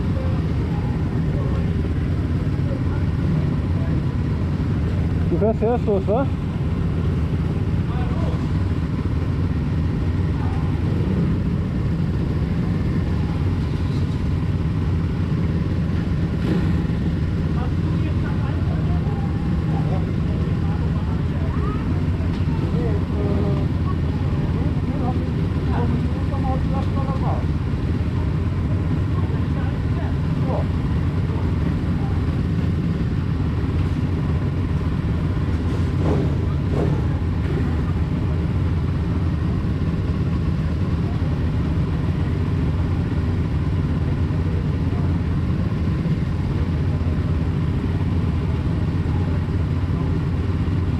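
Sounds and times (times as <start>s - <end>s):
motorbike engine running: 0.0s - 50.9s.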